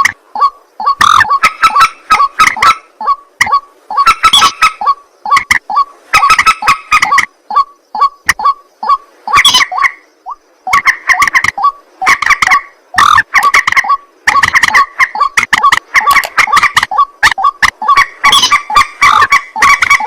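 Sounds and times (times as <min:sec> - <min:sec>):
waterhens calling harshly: 0:00.0 - 0:20.0.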